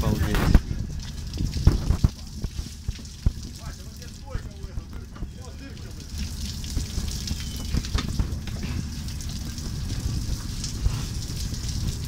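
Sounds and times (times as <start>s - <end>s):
low steady rumble: 0.0s - 12.0s
water dripping onto steel deck: 0.0s - 12.0s.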